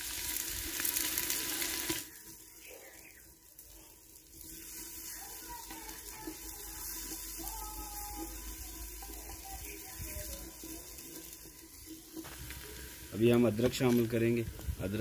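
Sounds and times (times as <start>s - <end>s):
onions sizzling in hot ghee: 0.0s - 15.0s.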